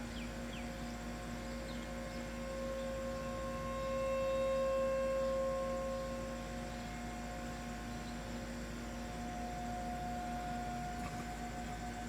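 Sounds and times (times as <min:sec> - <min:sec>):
warning siren steady tone: 0:01.6 - 0:12.0.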